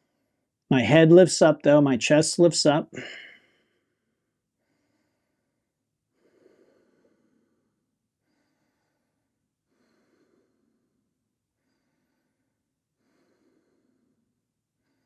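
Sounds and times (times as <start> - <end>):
person breathing slowly: 0.0 - 0.5, 2.9 - 15.0.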